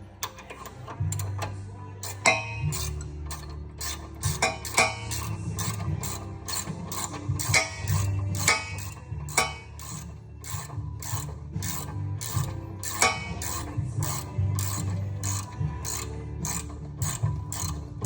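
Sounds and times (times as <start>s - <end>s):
socket ratchet clicking: 0.0s - 18.0s
hand tools clattering: 0.2s - 18.0s.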